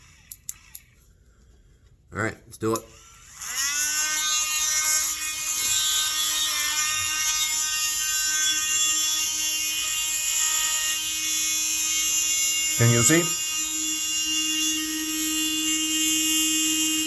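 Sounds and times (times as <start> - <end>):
rotary tool high-pitched whine: 0.0 - 1.1, 2.6 - 17.0.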